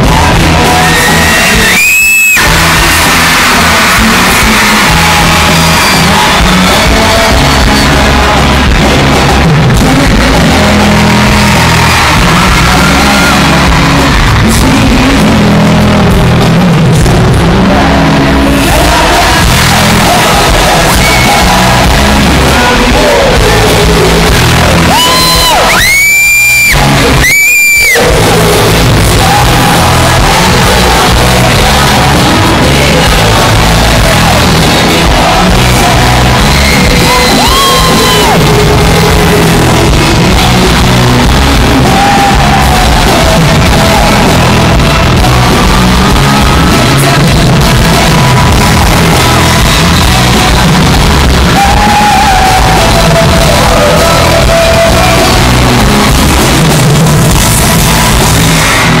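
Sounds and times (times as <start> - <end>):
crowd screaming and singing: 0.0 - 59.0
live pop band over pa: 0.0 - 59.0.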